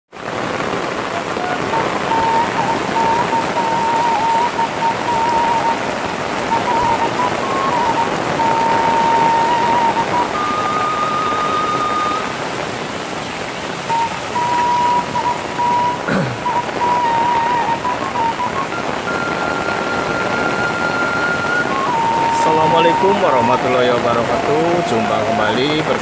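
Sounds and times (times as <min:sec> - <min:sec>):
heavy rain on leaves and pavement: 0:00.1 - 0:26.0.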